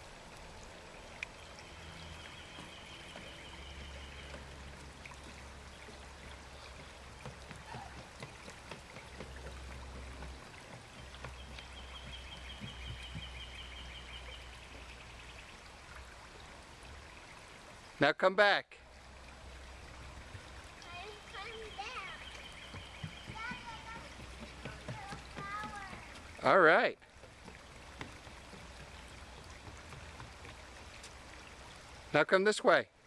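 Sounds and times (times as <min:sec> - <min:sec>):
faint rush of running water: 0:00.0 - 0:33.0.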